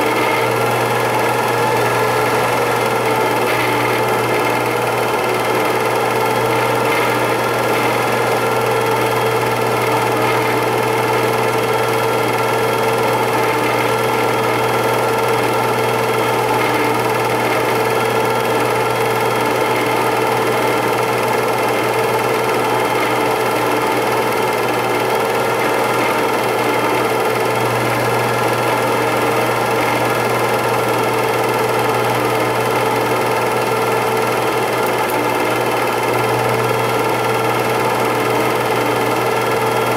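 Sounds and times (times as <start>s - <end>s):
film projector whirring and rattling: 0.0s - 39.9s.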